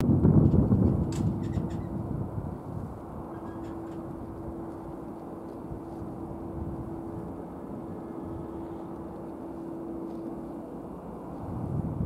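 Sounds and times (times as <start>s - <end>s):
jet flying overhead: 0.0s - 12.0s.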